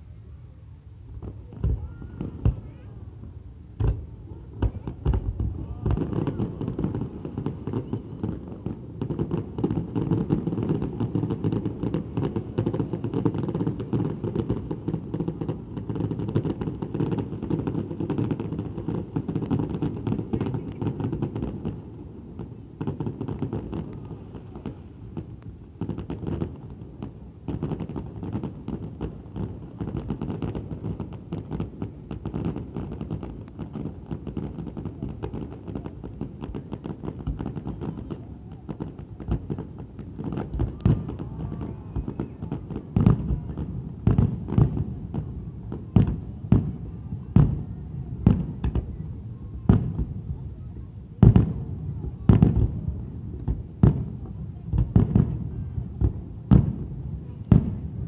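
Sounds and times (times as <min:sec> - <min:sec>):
distant firework bangs and crackles: 0:01.0 - 0:58.0
loud firework booms: 0:01.1 - 0:50.6, 0:51.2 - 0:58.0.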